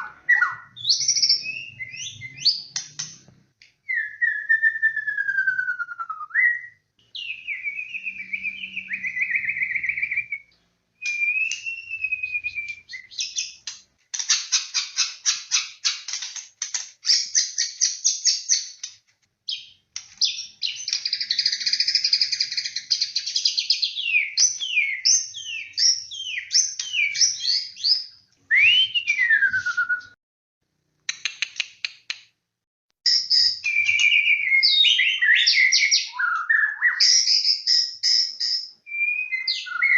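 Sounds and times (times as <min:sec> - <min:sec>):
bird singing varied song: 0:00.0 - 0:16.2, 0:17.0 - 0:30.2, 0:33.0 - 0:39.9.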